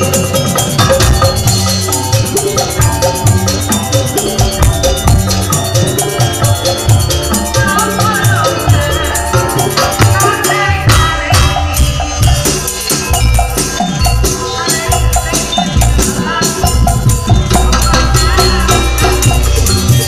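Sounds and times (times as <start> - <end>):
drums and rattling percussion: 0.0 - 20.0
loud live stage music: 0.0 - 20.0.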